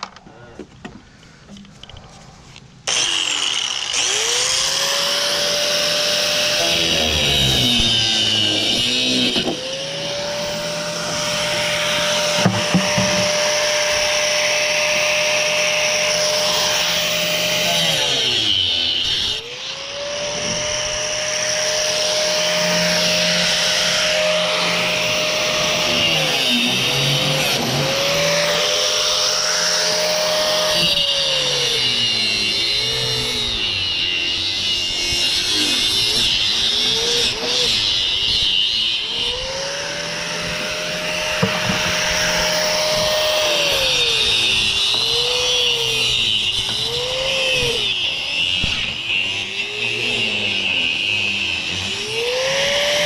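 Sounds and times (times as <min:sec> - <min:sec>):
electric power tool whining: 0:00.9 - 0:53.0.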